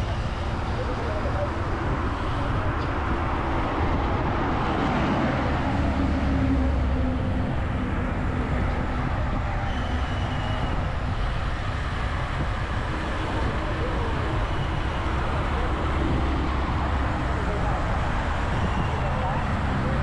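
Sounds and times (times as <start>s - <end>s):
passing vehicle engine hum: 0.0s - 20.0s
wind and road noise rumble: 0.0s - 20.0s.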